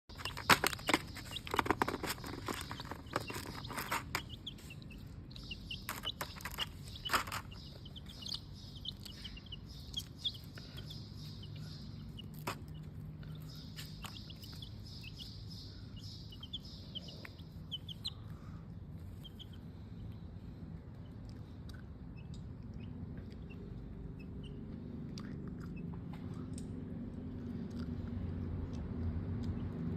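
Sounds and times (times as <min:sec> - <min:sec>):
baby chicks peeping: 0:00.1 - 0:29.9.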